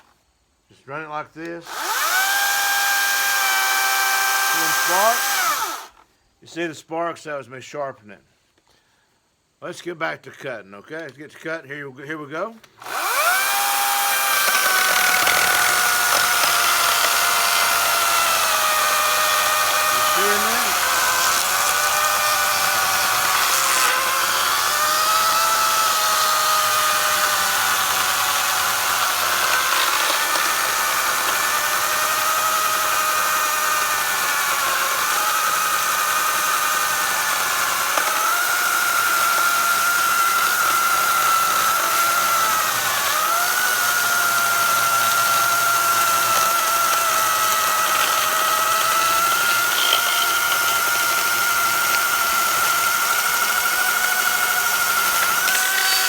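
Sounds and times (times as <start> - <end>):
chainsaw cutting log: 1.4 - 6.0, 12.7 - 56.0.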